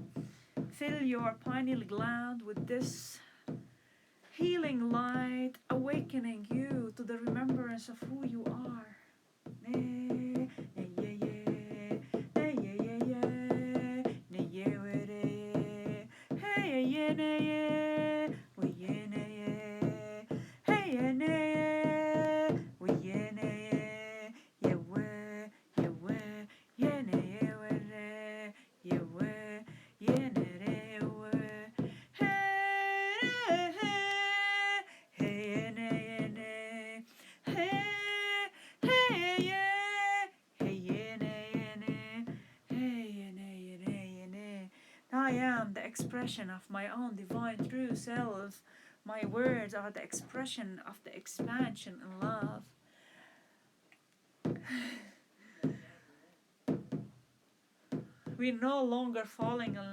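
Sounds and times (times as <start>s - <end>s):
woman singing wordless chant: 0.0s - 3.6s, 4.3s - 52.8s, 58.3s - 59.9s.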